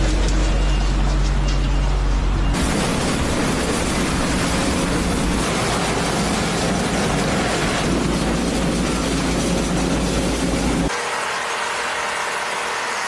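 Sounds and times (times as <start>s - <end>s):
road sweeper running: 0.0s - 13.0s.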